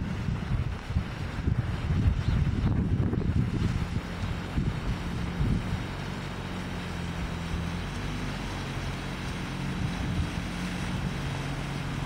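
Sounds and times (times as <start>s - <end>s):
outboard motor running: 0.0s - 12.0s
wind and water noise: 0.0s - 12.0s.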